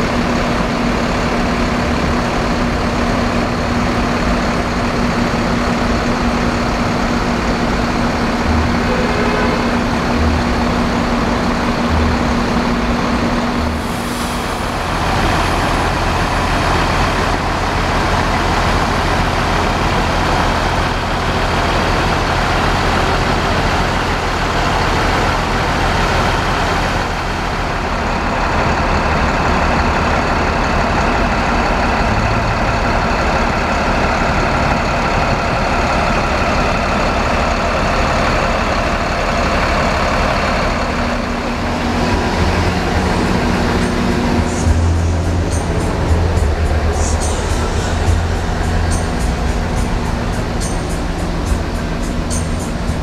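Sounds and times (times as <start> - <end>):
bus diesel engine idling: 0.0 - 53.0.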